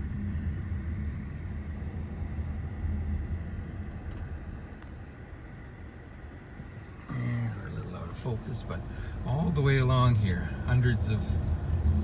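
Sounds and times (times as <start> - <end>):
car engine rumbling: 0.6 - 12.0.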